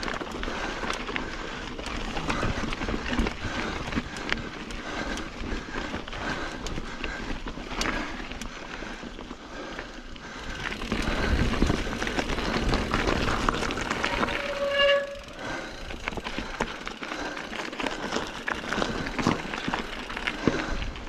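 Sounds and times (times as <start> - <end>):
bike chain and frame rattling: 0.0 - 21.0
bike tyres rolling on dirt and rock: 0.0 - 21.0.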